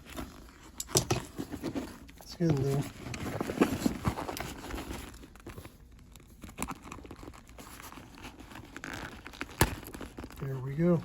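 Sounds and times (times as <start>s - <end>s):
leather crinkling: 0.0s - 11.0s.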